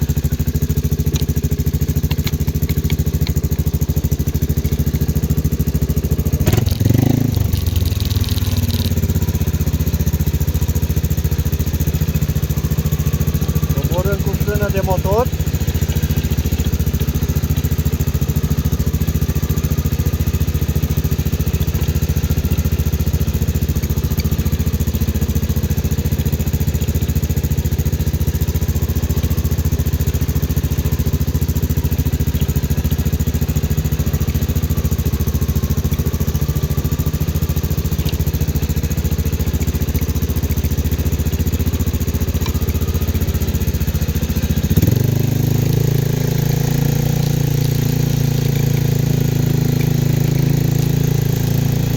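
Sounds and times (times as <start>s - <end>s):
atv engine running: 0.0s - 51.9s.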